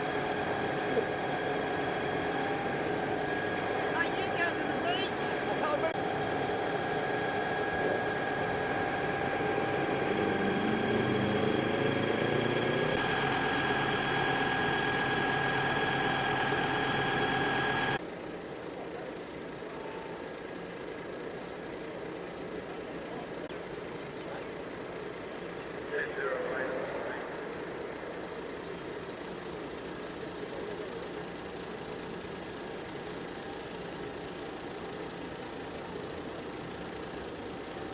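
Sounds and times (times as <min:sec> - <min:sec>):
heavy vehicle engine whine: 0:00.0 - 0:37.9
steady engine rumble: 0:00.0 - 0:37.9.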